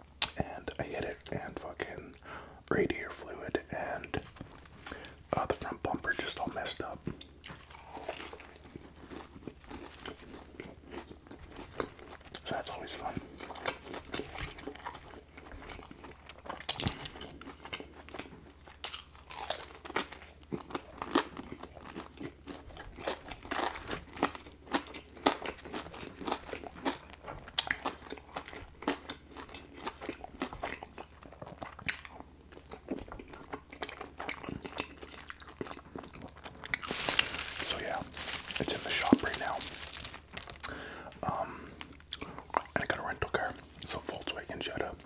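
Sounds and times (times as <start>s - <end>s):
crunchy biting and chewing: 6.2s - 44.2s.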